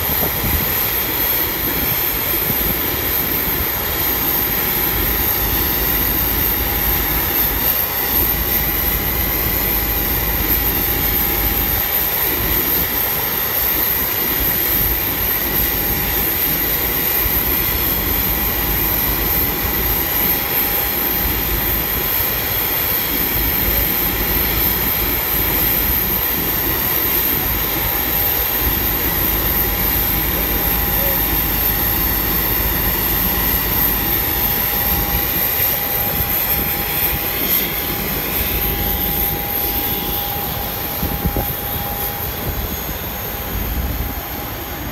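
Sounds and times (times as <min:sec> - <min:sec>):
jet engine whine and rumble: 0:00.0 - 0:44.9.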